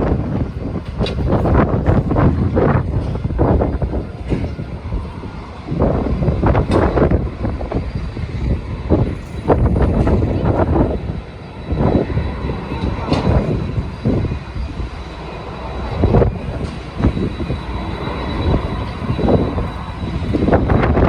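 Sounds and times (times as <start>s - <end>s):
jet engines whining: 0.0s - 21.0s
wind buffeting microphone: 0.0s - 21.0s.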